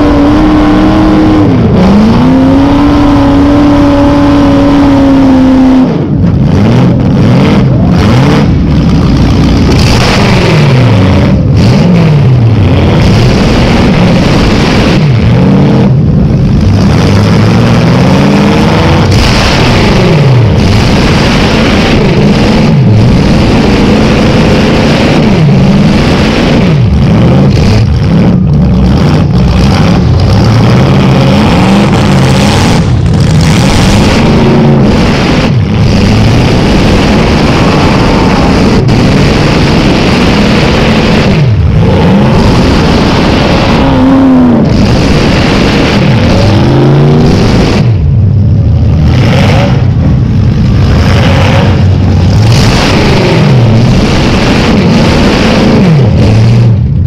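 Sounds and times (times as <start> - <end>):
car engine revving loudly: 0.0 - 57.0.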